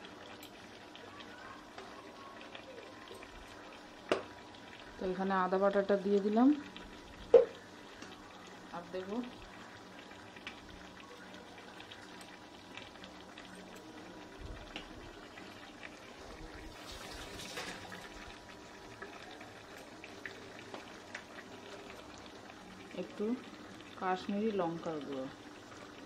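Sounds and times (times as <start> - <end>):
onion frying in oil: 0.0 - 26.0.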